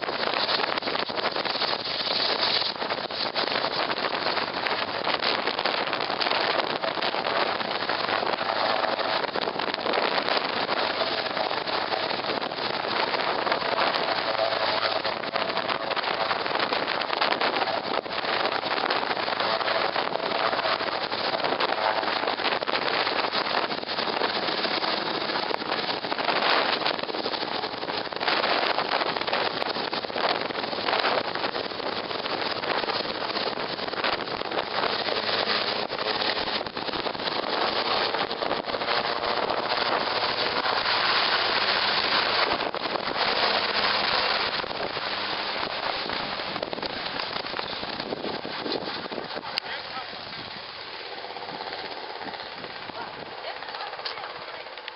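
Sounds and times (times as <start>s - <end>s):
faint whine: 0.0s - 54.9s
helicopter running: 0.0s - 54.9s.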